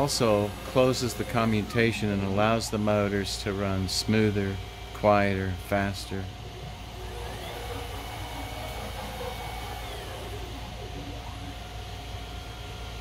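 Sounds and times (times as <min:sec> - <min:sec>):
steady low hum: 0:00.0 - 0:13.0
stepper motor whine: 0:00.0 - 0:13.0.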